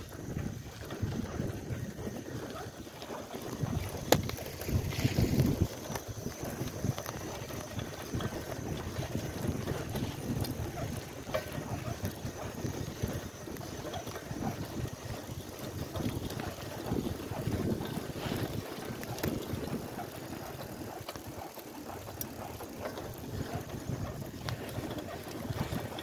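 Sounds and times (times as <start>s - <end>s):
bicycle rumbling on asphalt: 0.0s - 26.0s
wind buffeting microphone: 0.0s - 26.0s.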